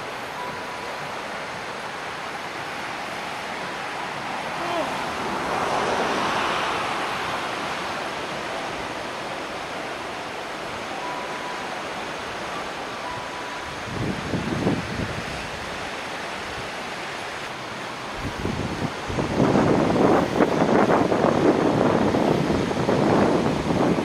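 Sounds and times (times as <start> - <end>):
ocean surf washing ashore: 0.0 - 24.0
wind buffeting microphone: 3.2 - 24.0.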